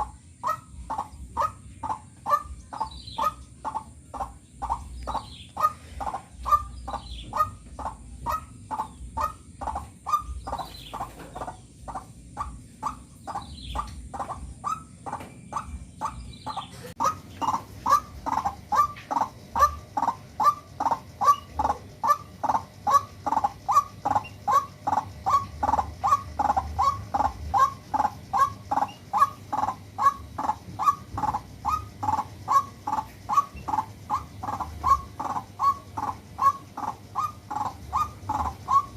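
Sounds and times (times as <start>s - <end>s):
small birds chirping: 0.0s - 38.9s
waterhen harsh calls: 0.0s - 38.9s.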